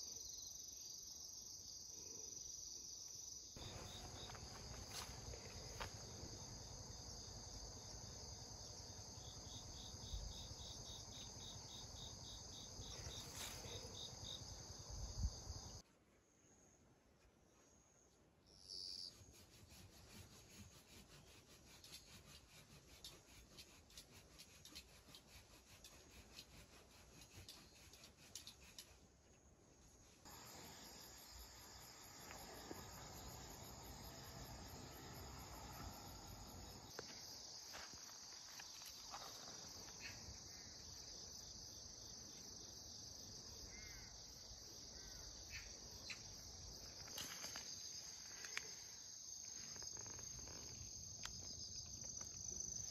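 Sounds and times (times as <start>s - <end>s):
crickets and insects chirping: 0.0s - 15.8s, 17.7s - 52.9s.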